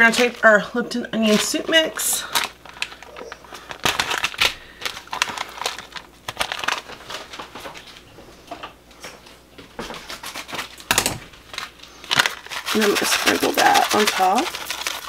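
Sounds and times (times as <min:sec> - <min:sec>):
paper packet crinkling: 0:00.0 - 0:08.0, 0:09.8 - 0:15.0.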